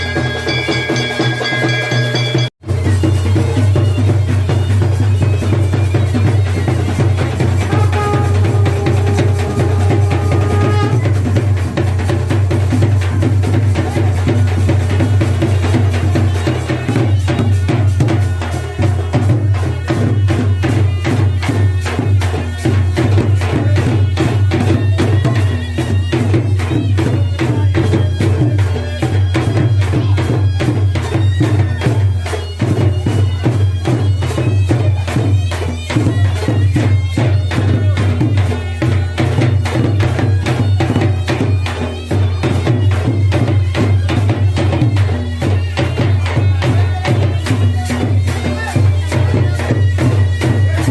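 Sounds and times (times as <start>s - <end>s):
wind instrument wavering melody: 0.0s - 12.1s, 12.7s - 50.9s
fast continuous drumming: 0.0s - 50.9s.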